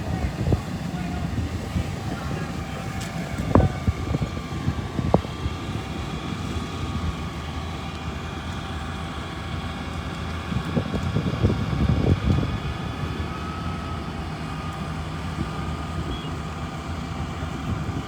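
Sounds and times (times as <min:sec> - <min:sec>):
fire engines running: 0:00.0 - 0:18.0
wind buffeting microphone: 0:00.0 - 0:18.0.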